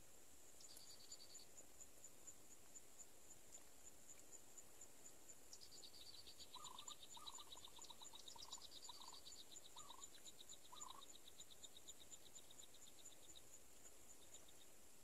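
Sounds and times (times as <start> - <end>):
frogs: 0.0 - 15.0
insects: 0.0 - 15.0.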